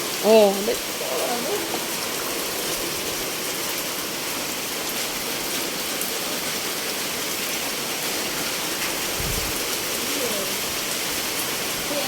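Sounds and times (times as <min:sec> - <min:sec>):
floodwater hissing: 0:00.0 - 0:12.0.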